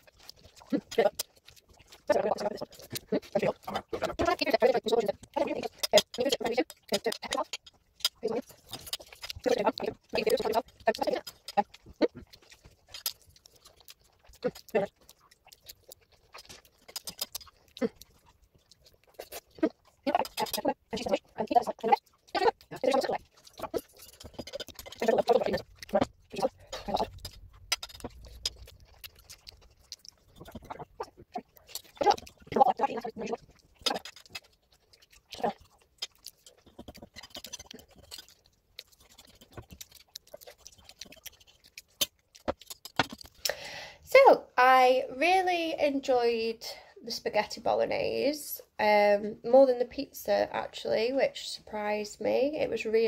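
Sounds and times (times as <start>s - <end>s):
person chewing: 0.0s - 44.1s.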